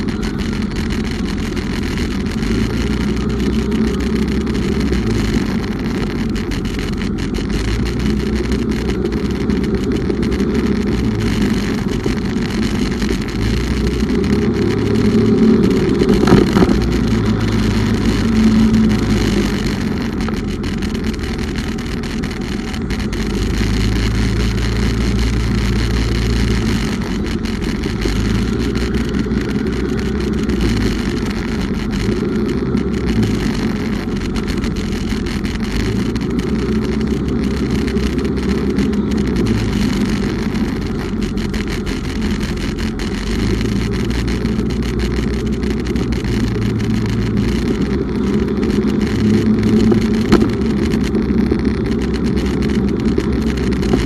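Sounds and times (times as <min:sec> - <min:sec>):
motorcycle engine rumble: 0:00.0 - 0:54.0
road noise: 0:00.0 - 0:54.0.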